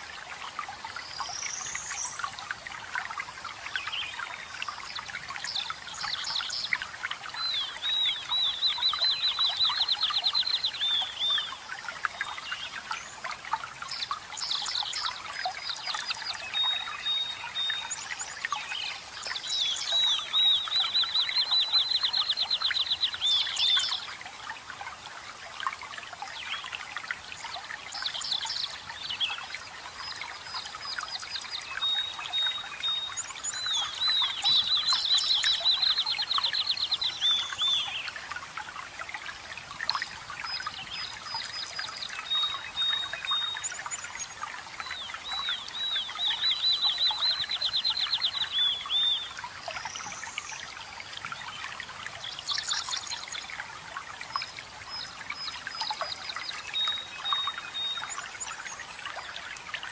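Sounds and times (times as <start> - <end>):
water trickling: 0.0 - 59.9
songbirds singing: 0.7 - 25.3, 25.9 - 59.9.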